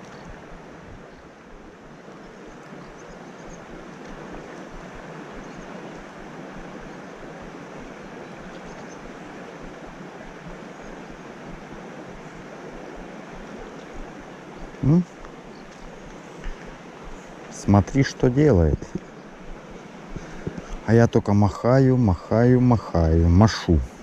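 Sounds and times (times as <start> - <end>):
river rushing over rapids: 0.0 - 24.0.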